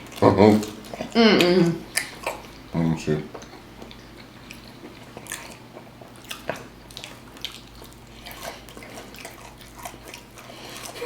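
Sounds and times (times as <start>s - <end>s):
chewing crunchy chips: 0.0s - 11.0s.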